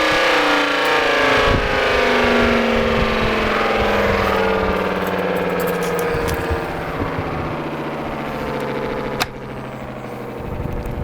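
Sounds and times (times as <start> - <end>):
electric siren winding down: 0.0 - 11.0.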